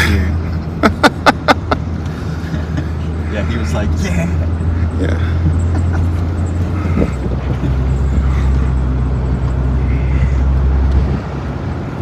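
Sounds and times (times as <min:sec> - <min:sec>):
car engine drone: 0:00.0 - 0:12.0
road and wind noise: 0:00.0 - 0:12.0.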